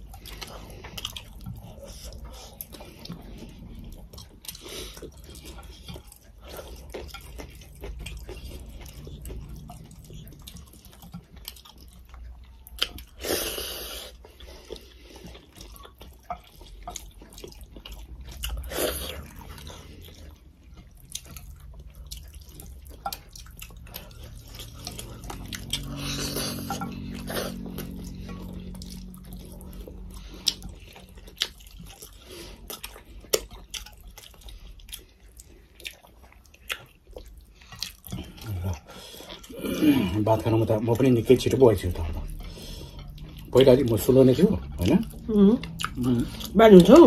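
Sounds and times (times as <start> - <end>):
chewing with wet mouth clicks: 0.0 - 47.0.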